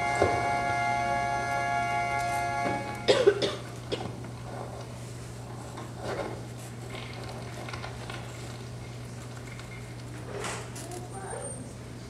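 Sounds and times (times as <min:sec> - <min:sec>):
audience rustling: 0:00.0 - 0:12.0
steady low hum: 0:00.0 - 0:12.0.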